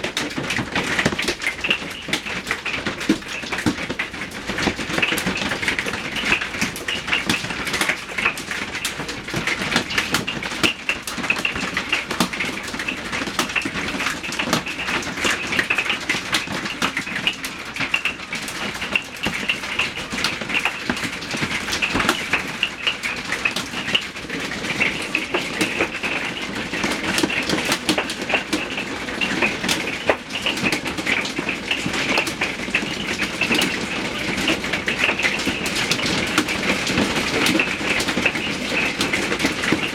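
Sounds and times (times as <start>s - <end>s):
hail pelting down: 0.0s - 39.9s.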